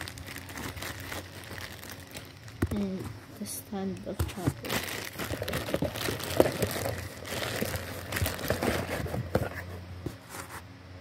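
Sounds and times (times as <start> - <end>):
plastic bag crinkling: 0.0 - 3.4, 4.1 - 9.8.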